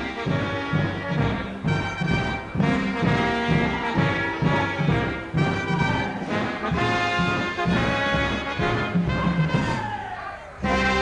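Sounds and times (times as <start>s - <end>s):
circus band music with brass: 0.0s - 11.0s.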